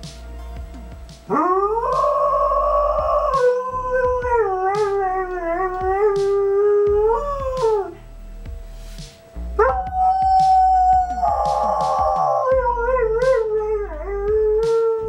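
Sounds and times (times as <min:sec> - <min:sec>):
dog howling: 0:01.3 - 0:08.0, 0:09.6 - 0:15.0
emergency siren: 0:01.3 - 0:08.0, 0:09.6 - 0:15.0.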